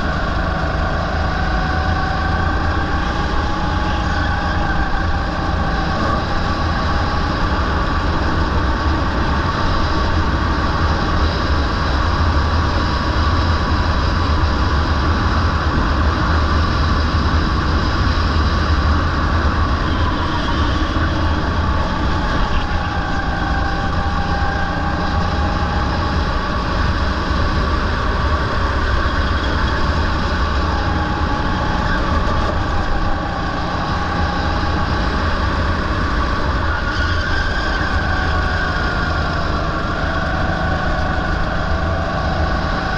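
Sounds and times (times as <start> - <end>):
go-kart engine running hard: 0.0 - 42.9
wind rumble on microphone: 0.0 - 42.9.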